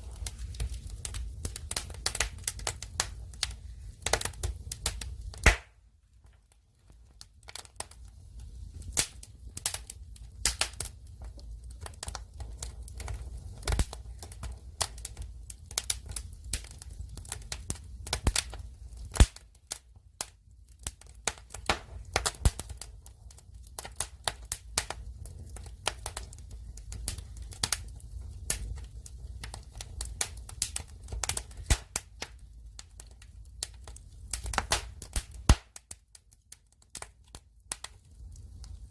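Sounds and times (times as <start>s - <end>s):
firewood crackling and popping: 0.0s - 38.9s
low rumble of fire: 0.0s - 38.9s.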